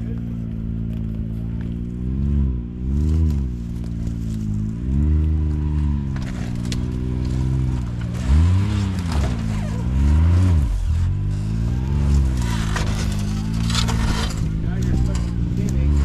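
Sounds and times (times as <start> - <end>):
utility vehicle engine revving: 0.0 - 16.0.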